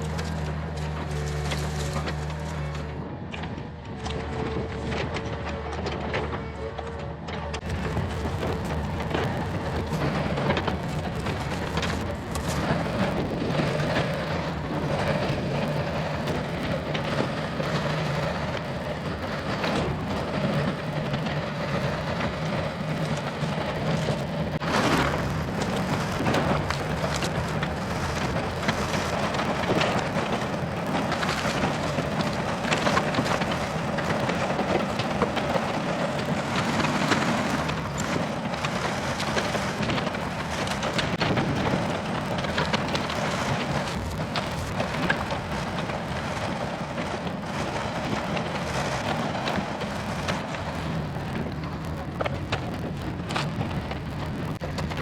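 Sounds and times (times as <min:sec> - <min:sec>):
excavator engine running: 0:00.0 - 0:55.0
wood cracking and splintering: 0:00.0 - 0:55.0.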